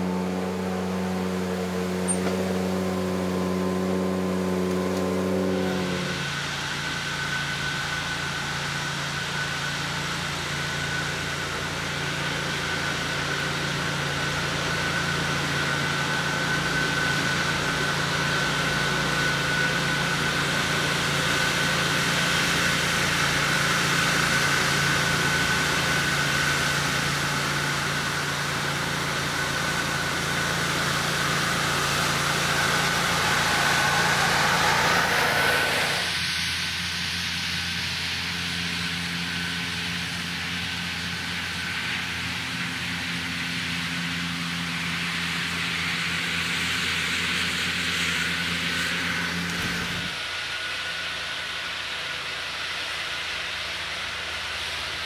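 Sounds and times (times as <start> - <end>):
high whine: 0.0 - 46.6
blower air rush: 0.0 - 55.0
engine hum: 0.0 - 55.0.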